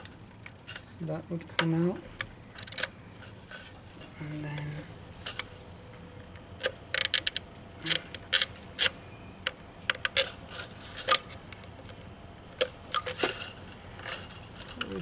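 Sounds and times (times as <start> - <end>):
hard parts clicking and clacking: 1.5 - 5.6, 6.2 - 15.0.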